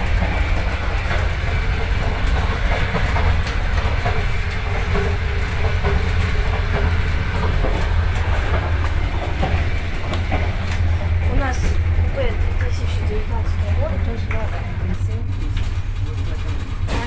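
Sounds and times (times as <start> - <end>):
train carriage low rumble: 0.0 - 17.0
wheels clacking over rails: 0.0 - 17.0.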